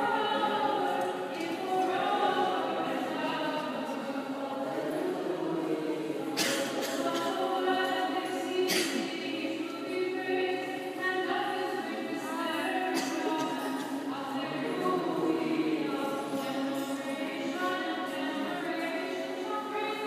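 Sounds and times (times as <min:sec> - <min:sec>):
choir chanting unaccompanied: 0:00.0 - 0:20.0.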